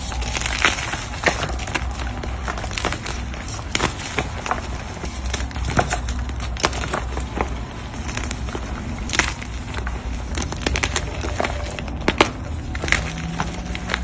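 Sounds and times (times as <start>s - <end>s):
chalk blocks crushing: 0.0s - 14.0s.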